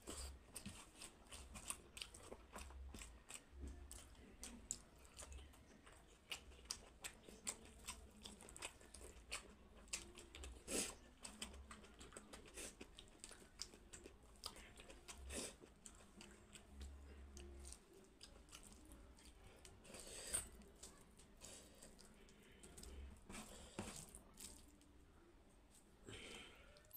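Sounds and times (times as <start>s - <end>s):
chewing: 0.0s - 25.3s.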